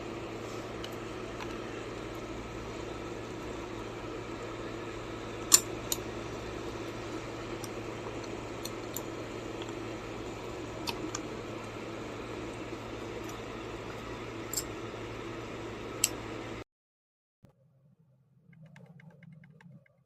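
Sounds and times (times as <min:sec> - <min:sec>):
steady hum: 0:00.0 - 0:16.6.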